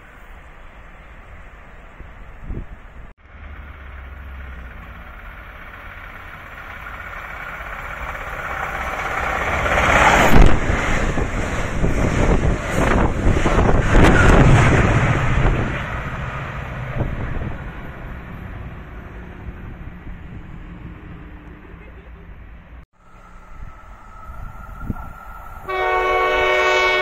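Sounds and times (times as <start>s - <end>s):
train passing at high speed: 0.0s - 21.8s, 22.6s - 27.0s.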